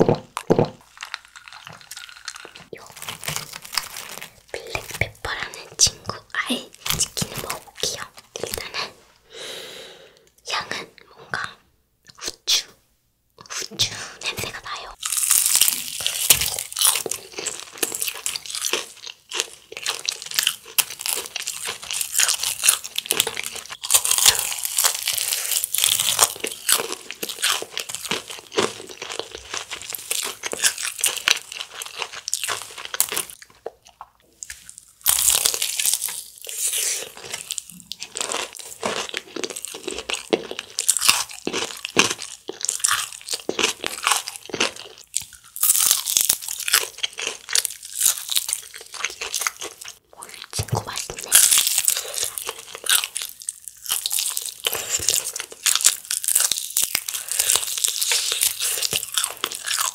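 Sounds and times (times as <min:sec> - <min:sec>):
fried chicken crust crunching: 0:00.1 - 0:05.1, 0:15.0 - 0:50.0, 0:51.1 - 0:59.9.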